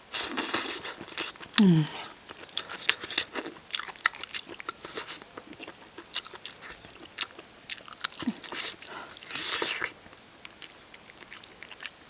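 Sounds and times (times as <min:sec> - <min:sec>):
person chewing crisp food: 0:00.0 - 0:12.0.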